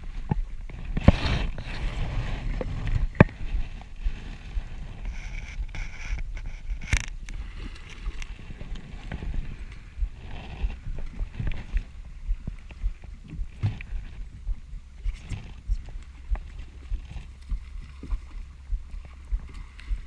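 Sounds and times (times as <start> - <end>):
water slapping metal hull: 0.0 - 20.0
wind: 0.0 - 20.0.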